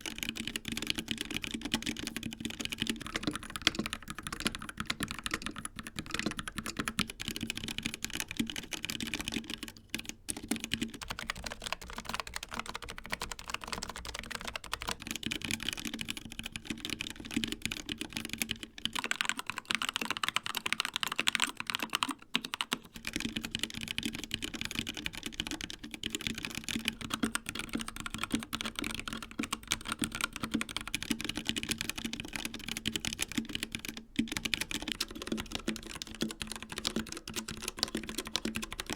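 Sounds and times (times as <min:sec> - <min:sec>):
typing on mechanical keyboards: 0:00.0 - 0:38.9.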